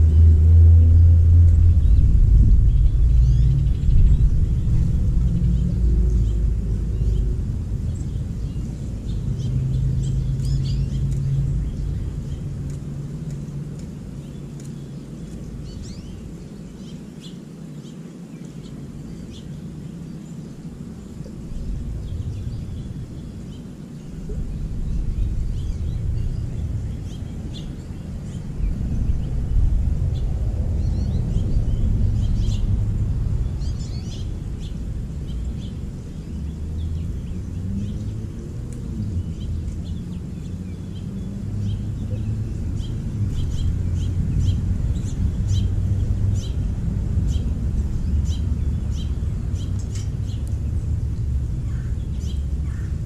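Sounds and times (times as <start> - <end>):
low rumble: 0.0 - 16.9, 20.6 - 53.0
small songbirds chirping: 0.0 - 53.0.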